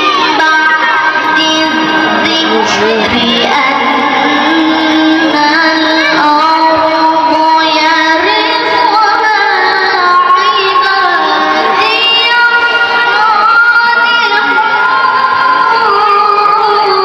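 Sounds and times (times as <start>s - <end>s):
boy reciting melodically: 0.0s - 17.0s.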